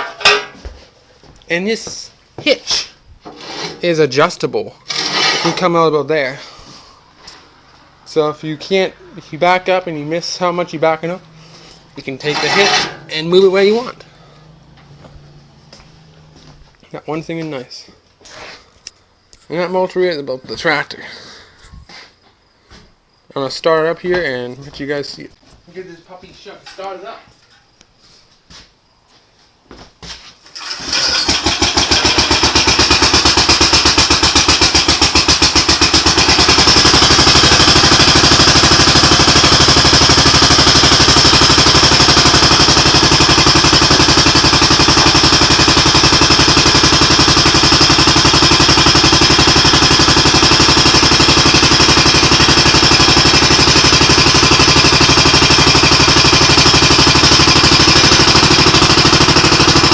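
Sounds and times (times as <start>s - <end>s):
tractor engine starting and running: 0.0s - 21.0s, 30.4s - 59.9s.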